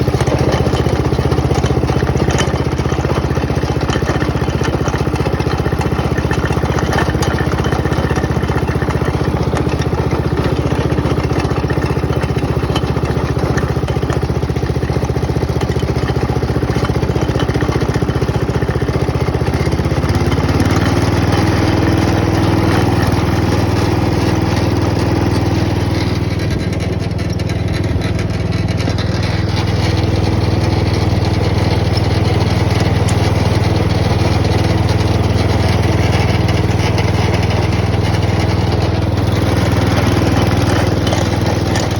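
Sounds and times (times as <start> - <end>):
lawn mower engine running: 0.0 - 41.9.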